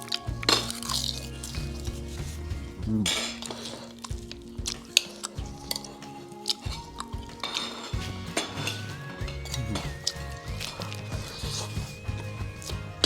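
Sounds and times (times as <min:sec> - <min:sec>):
background music with held notes: 0:00.0 - 0:13.0
utensils clinking on plates: 0:00.0 - 0:13.0.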